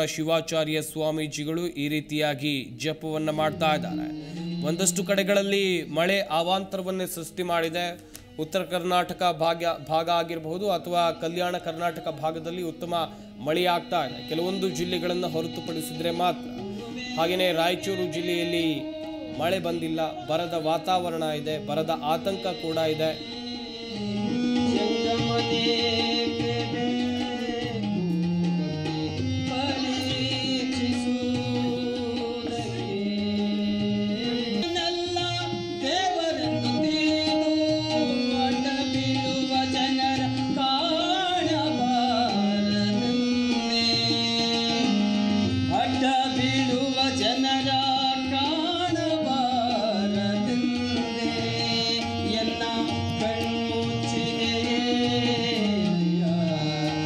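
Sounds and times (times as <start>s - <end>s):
harmonium: 0.0s - 57.0s
man singing devotional song: 0.0s - 57.0s
tabla rhythm: 0.0s - 57.0s.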